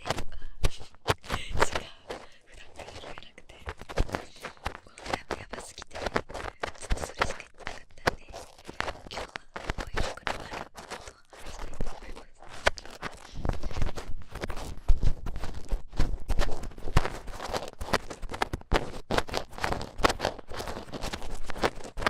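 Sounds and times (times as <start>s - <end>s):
ear pick scraping microphone: 0.0s - 22.0s.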